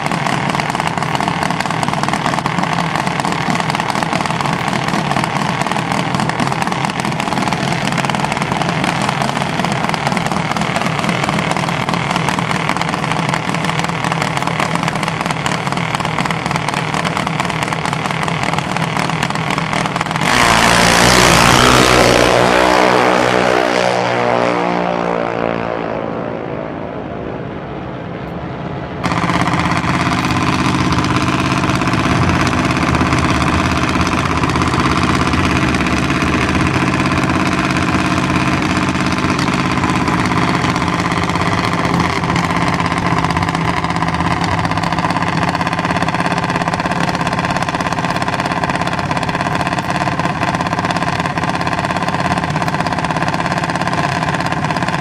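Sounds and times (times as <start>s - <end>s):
dragster engines idling: 0.0s - 27.6s, 28.3s - 55.0s
dragster launching at full throttle: 0.0s - 55.0s.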